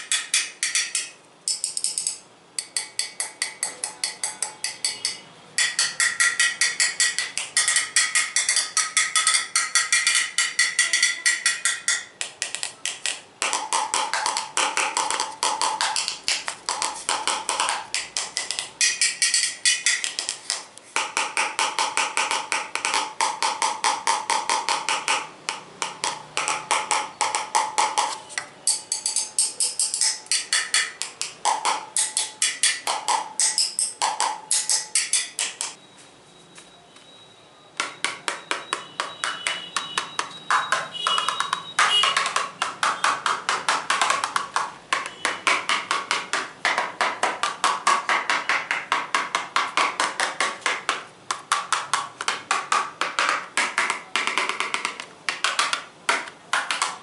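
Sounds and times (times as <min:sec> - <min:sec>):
fast tapping on hard objects: 0:00.0 - 0:35.8, 0:37.8 - 0:57.0.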